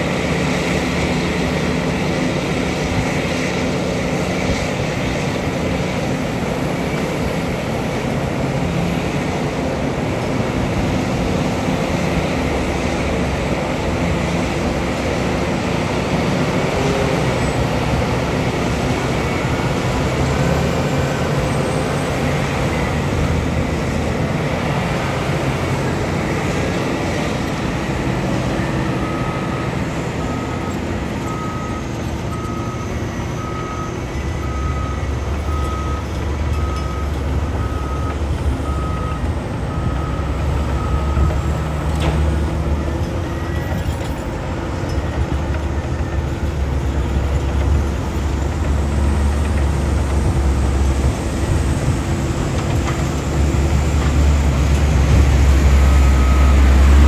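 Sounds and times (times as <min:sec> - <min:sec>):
heavy diesel machinery rumbling: 0:00.0 - 0:57.0
reversing alarm beeping: 0:10.4 - 0:57.0.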